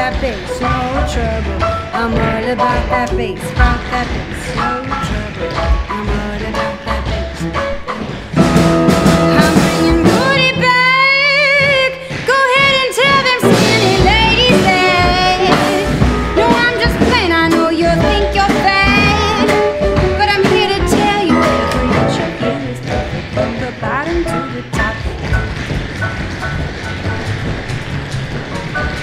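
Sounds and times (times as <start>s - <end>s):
pop music with singing: 0.0s - 26.0s.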